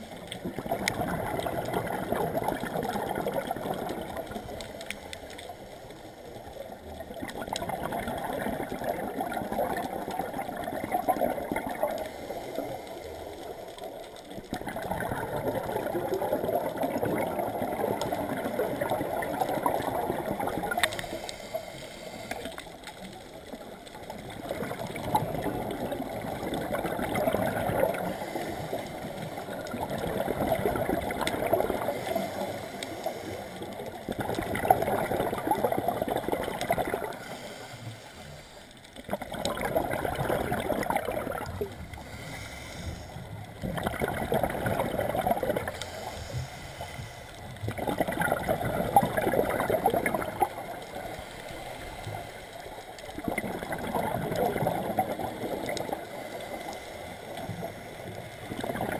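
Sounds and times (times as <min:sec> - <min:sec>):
scuba exhaust bubbles gurgling: 0:00.0 - 0:58.9.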